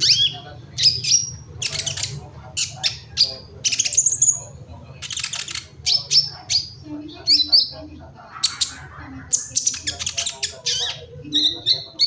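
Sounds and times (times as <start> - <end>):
bird chirping: 0.0 - 12.0
bird twittering: 0.0 - 12.0.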